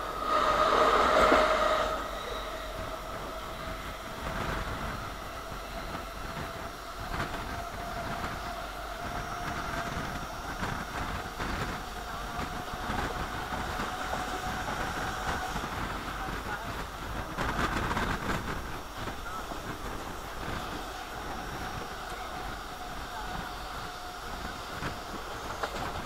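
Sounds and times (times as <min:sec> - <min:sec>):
steady train whine: 0:00.0 - 0:26.0
train wheel and rail noise: 0:00.0 - 0:26.0.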